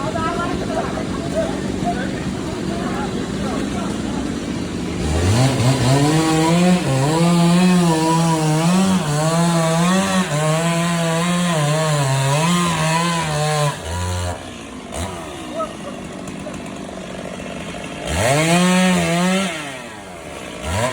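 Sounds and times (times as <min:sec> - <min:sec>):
chainsaw running: 0:00.0 - 0:20.9.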